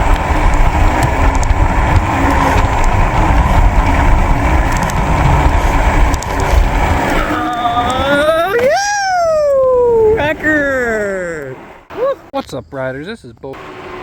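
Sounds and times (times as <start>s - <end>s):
vehicle road noise rumbling: 0.0s - 14.0s.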